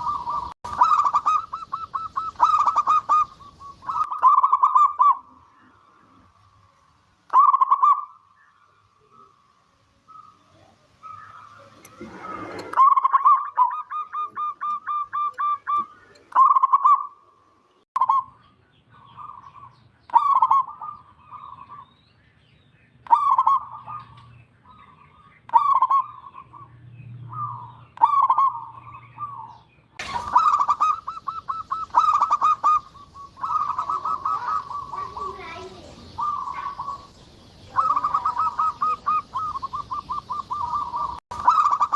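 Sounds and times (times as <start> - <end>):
dove cooing: 0.0 - 6.4, 7.3 - 8.2, 10.0 - 17.2, 20.2 - 21.8, 23.1 - 24.9, 25.5 - 26.6, 27.3 - 41.9.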